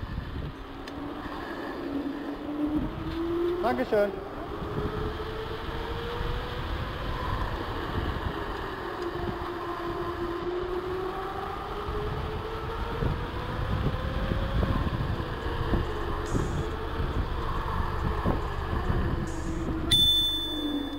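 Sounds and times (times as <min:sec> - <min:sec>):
wind buffeting microphone: 0:00.0 - 0:20.1
electric bike hum: 0:00.0 - 0:20.9.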